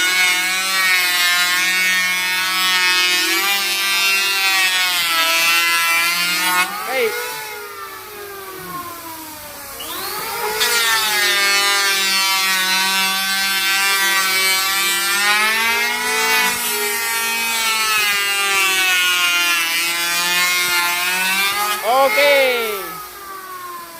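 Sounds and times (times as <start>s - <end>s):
saw cutting into wooden board: 0.0s - 8.8s, 9.8s - 23.8s
power tool motor whine: 1.6s - 23.9s.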